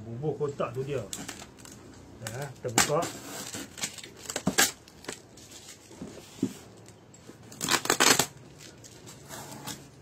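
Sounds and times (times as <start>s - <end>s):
scraping and rustling of parcel: 0.3s - 10.0s.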